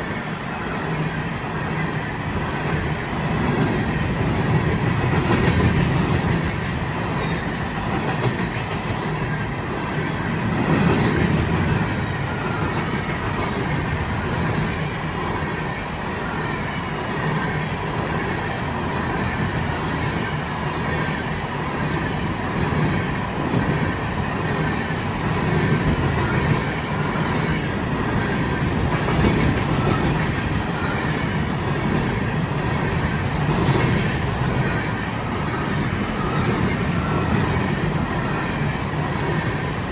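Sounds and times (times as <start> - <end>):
thin steady whine: 0.0 - 39.9
train wheels rushing on rails: 0.0 - 39.9.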